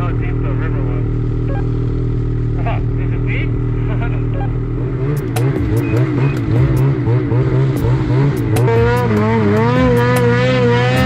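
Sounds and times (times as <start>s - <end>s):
snowmobile engine: 0.0s - 11.0s.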